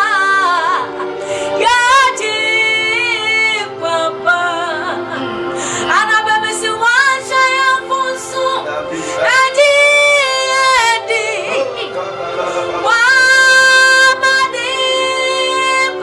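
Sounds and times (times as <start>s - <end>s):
woman singing gospel song: 0.0s - 5.1s, 5.7s - 11.9s, 12.7s - 16.0s.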